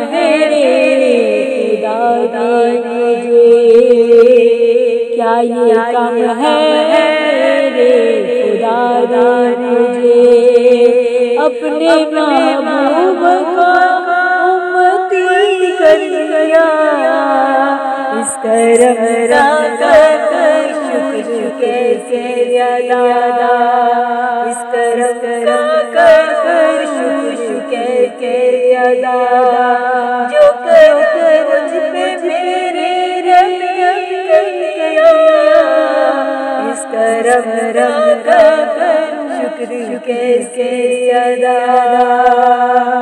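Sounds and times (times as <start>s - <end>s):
woman singing unaccompanied: 0.0s - 43.0s.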